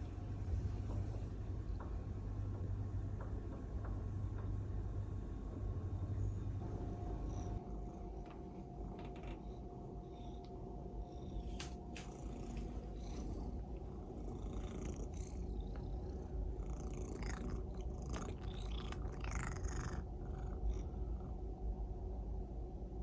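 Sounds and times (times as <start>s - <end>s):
cat purring: 0.0s - 21.5s.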